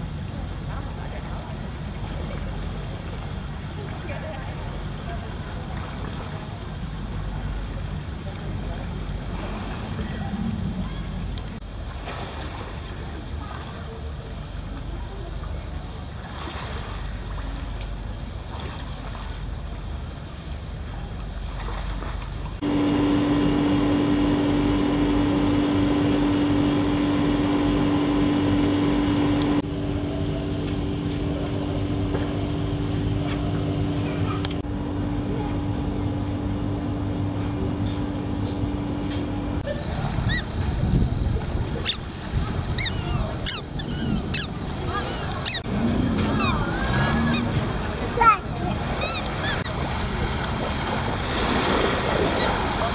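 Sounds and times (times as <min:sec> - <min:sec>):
motorboat engine running: 0:00.0 - 0:52.9
water noise: 0:00.0 - 0:52.9
wind: 0:00.0 - 0:52.9.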